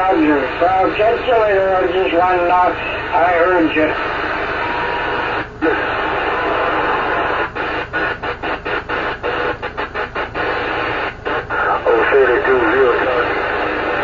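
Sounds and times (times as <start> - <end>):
radio receiver hiss: 0.0 - 14.0.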